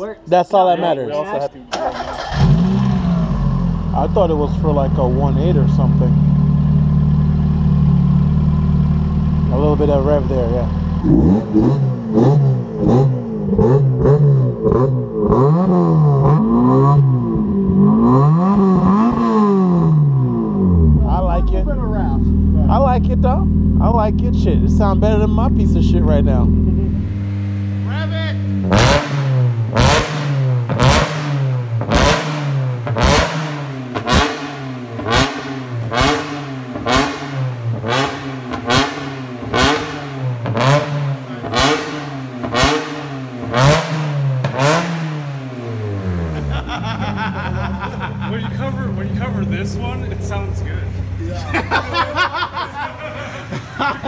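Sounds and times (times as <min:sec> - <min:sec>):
car engine revving: 0:01.6 - 0:54.0.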